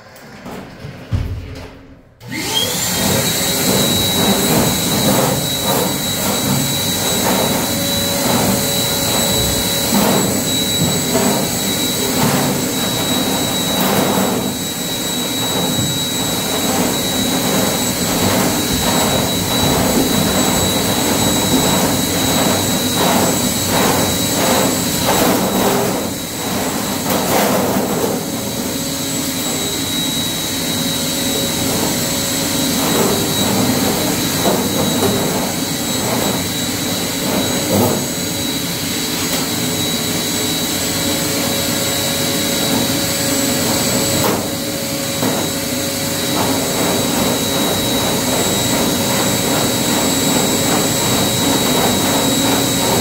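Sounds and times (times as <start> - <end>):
drain machine high whine: 2.2 - 53.0.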